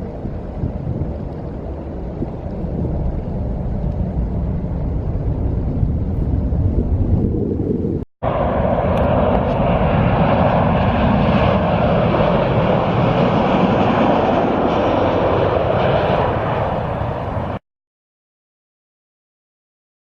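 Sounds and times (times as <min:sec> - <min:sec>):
jet engines passing overhead: 0:00.0 - 0:17.6.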